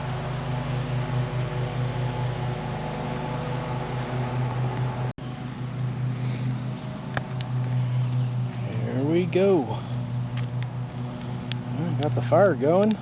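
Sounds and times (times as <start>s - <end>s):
lawn mower engine droning: 0.0s - 13.0s.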